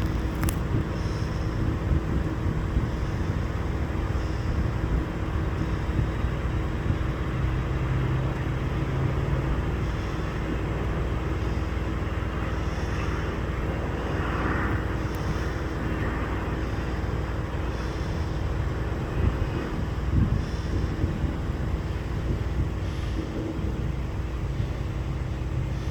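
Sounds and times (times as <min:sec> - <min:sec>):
turboprop engine drone: 0:00.0 - 0:25.9.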